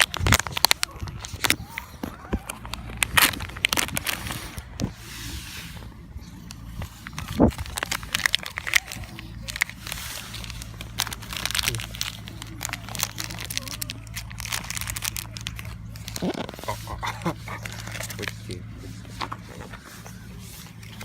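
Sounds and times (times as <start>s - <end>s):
cat chewing and crunching food: 0.0s - 21.0s.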